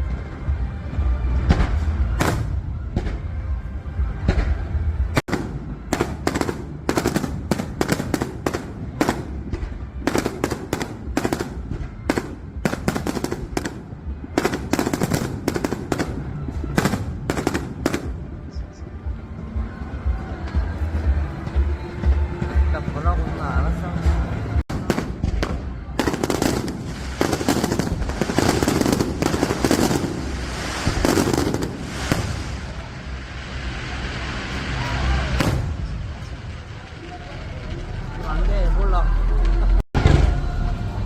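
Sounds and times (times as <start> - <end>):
fireworks bangs and crackles: 0.0 - 41.0
low rumble: 0.0 - 41.0.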